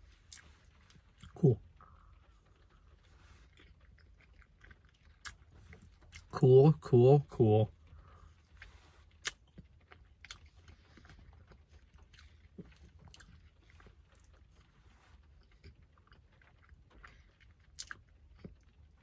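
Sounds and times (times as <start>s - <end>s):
chewing with mouth clicks: 0.0s - 6.4s, 7.7s - 19.0s
low steady hum: 0.0s - 19.0s.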